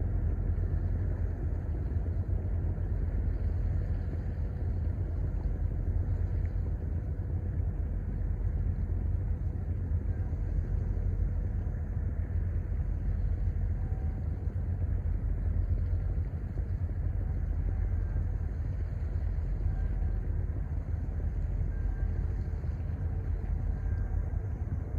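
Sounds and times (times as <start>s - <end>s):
ship engine rumbling: 0.0s - 24.9s.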